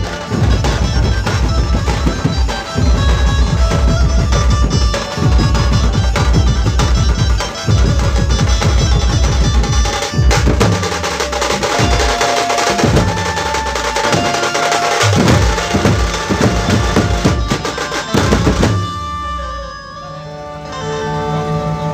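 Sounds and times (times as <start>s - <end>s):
barrel drums struck with sticks: 0.0s - 18.9s
melody of held notes: 0.0s - 21.9s.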